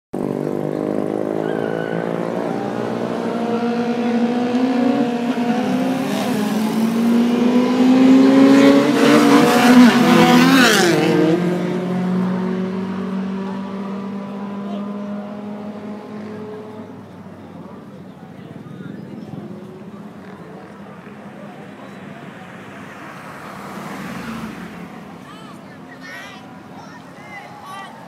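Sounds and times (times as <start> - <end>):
racing engines revving: 0.2 - 28.0.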